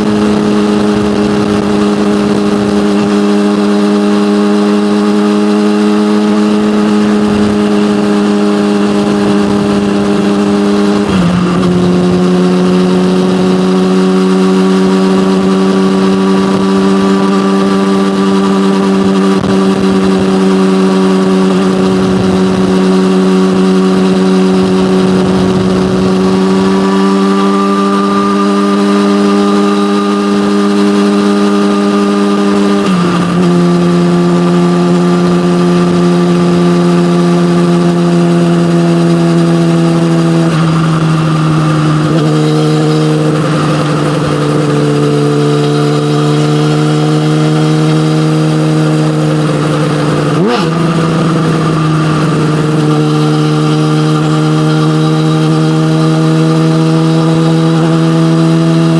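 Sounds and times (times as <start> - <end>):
motorcycle engine running: 0.0 - 58.9
motorcycle shifting gear: 0.0 - 58.9.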